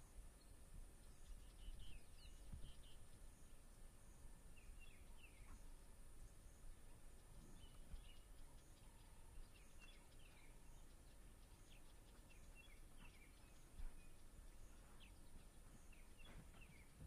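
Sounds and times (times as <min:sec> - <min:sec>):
low steady rumble: 0:00.0 - 0:17.0
small birds chirping: 0:00.0 - 0:17.0.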